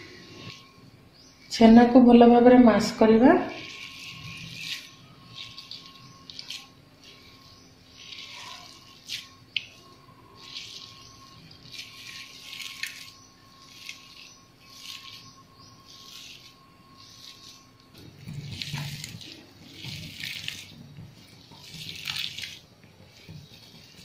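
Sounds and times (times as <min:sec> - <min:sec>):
hand scraping cheese on steel plate: 0:03.1 - 0:24.0.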